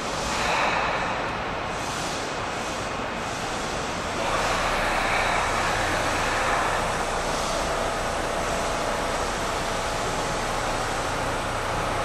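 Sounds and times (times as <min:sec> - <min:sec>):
train pulling into station: 0:00.0 - 0:12.0.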